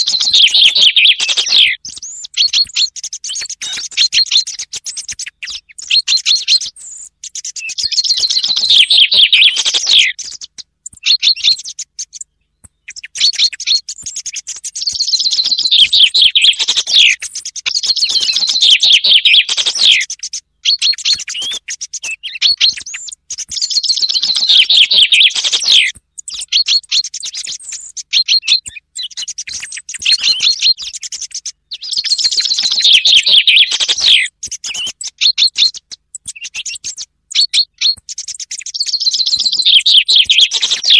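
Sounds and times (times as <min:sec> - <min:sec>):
chaffinch song trill: 0:00.0 - 0:40.9
song thrush calls: 0:00.0 - 0:40.9.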